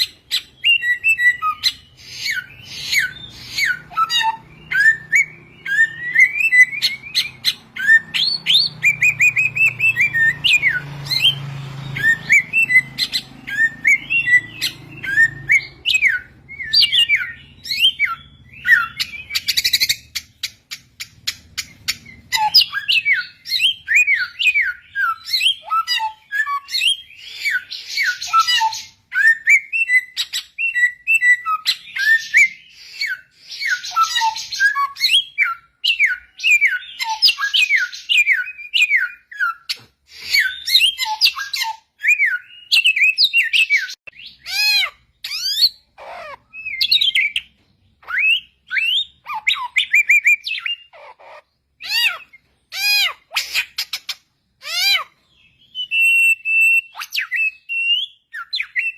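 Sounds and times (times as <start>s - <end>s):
bird singing whistled notes: 0.0s - 50.9s, 54.8s - 58.9s.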